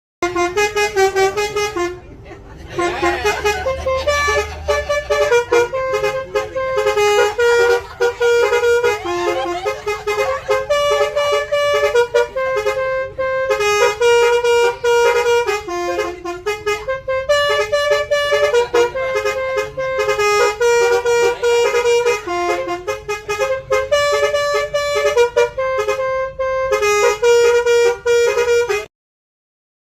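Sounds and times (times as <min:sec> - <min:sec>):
bus air horn playing tune: 0:00.2 - 0:28.9.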